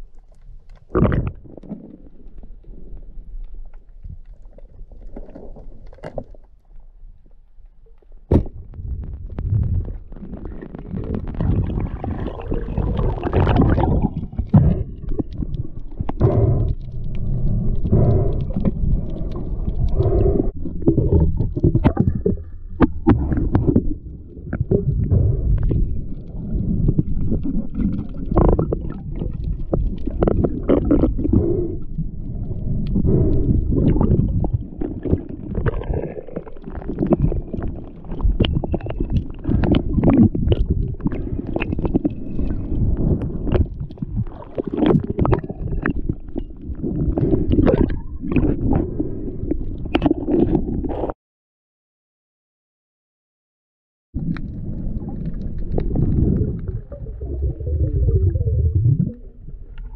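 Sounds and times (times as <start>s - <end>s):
underwater moving water rumble: 0.0s - 51.1s, 54.2s - 59.9s
gurgling bubbles: 0.7s - 3.2s, 8.3s - 51.1s, 54.2s - 59.9s.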